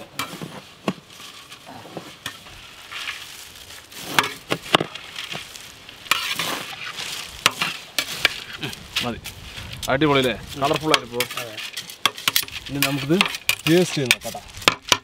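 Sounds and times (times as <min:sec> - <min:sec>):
crunchy stirring rustle: 0:00.0 - 0:15.0.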